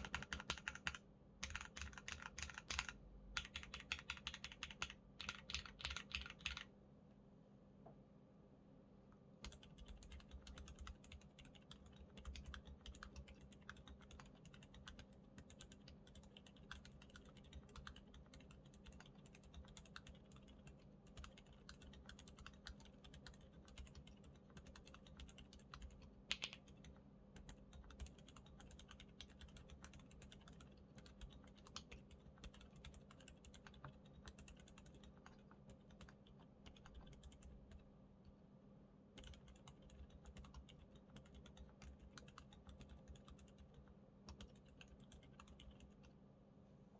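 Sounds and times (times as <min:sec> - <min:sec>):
mechanical keyboard typing: 0:00.0 - 0:06.7, 0:09.4 - 0:37.8, 0:39.2 - 0:46.1.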